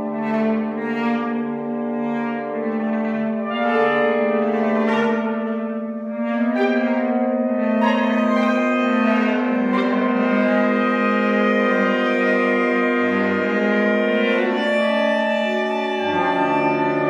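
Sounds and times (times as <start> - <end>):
saxophone ensemble chord: 0.0 - 17.0.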